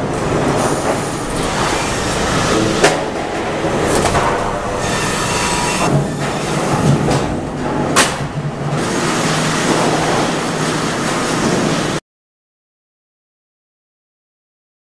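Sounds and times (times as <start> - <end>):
conveyors rumbling and rattling: 0.0 - 12.0.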